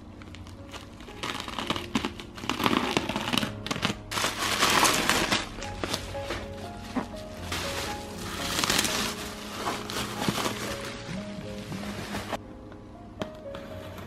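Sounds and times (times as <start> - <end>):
plastic bag and bubble wrap crinkling: 0.0 - 12.4
soft piano music: 0.0 - 14.0.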